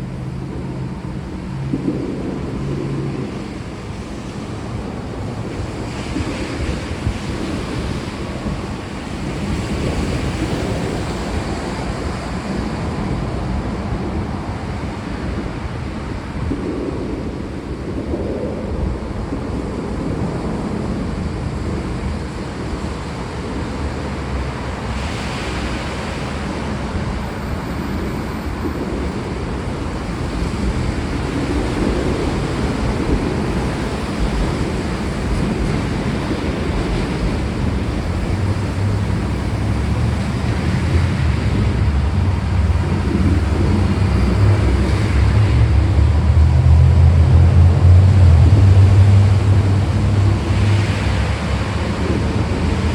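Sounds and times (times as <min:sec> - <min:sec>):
heavy rain: 0:00.0 - 0:52.9
thunder rumbling: 0:00.0 - 0:52.9.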